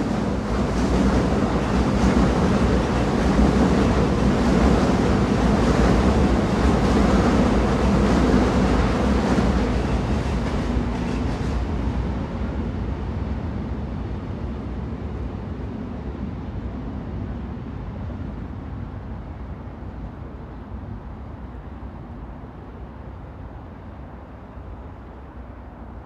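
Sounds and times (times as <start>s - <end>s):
train rumbling rush: 0.0s - 26.0s.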